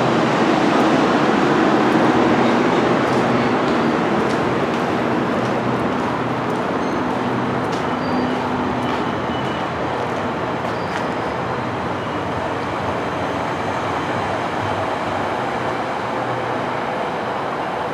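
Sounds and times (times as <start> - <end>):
commuter train rumbling past: 0.0 - 17.9.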